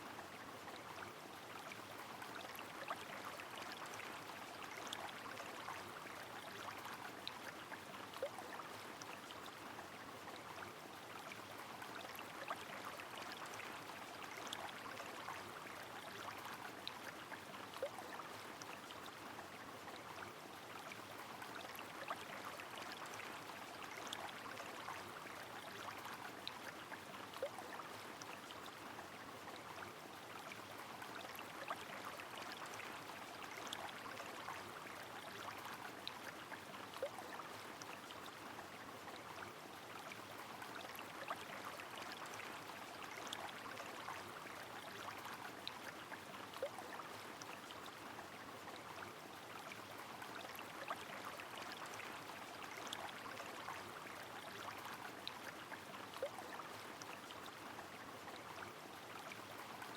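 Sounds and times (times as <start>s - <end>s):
flowing river: 0.0s - 59.9s.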